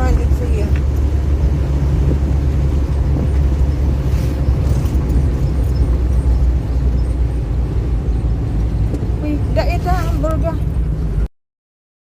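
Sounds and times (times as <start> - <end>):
vehicle rumbling on road: 0.0 - 11.3.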